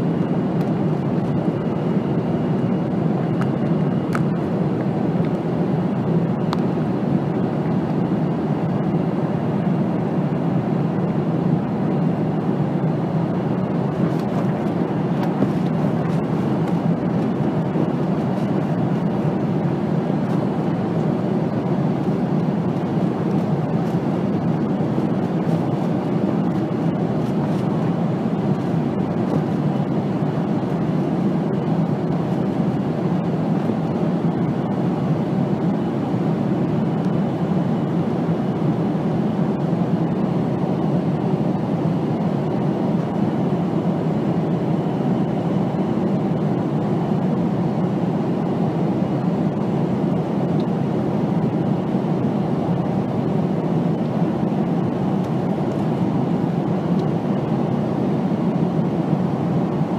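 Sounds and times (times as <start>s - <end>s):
airliner cabin engine rush: 0.0s - 59.9s.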